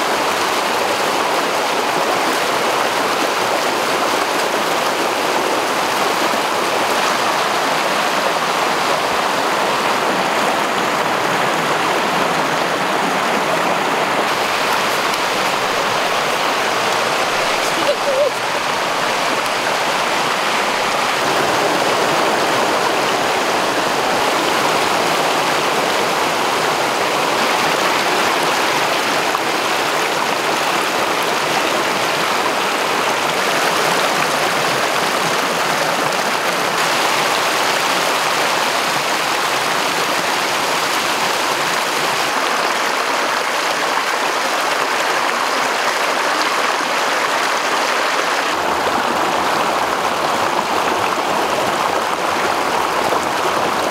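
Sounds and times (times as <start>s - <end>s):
stream rushing over rocks: 0.0s - 53.9s.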